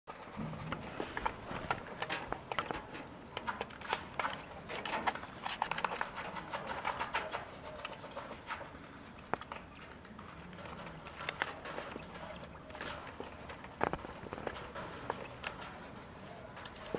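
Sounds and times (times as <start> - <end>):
birds scratching sand on plastic: 0.2 - 16.9.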